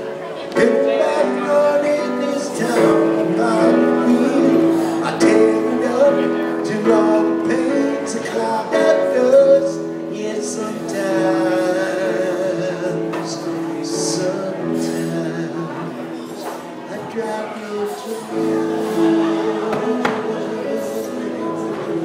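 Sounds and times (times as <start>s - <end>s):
electronic keyboard chords: 0.0s - 22.0s
person singing: 0.0s - 22.0s.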